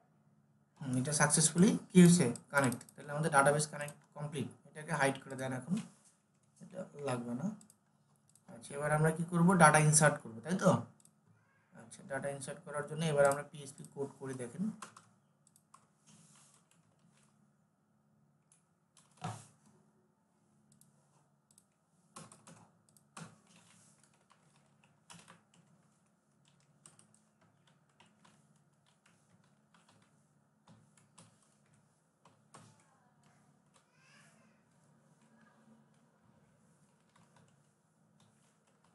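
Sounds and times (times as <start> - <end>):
faint typing on keyboard: 0.7 - 17.5, 18.4 - 19.8, 20.6 - 38.9.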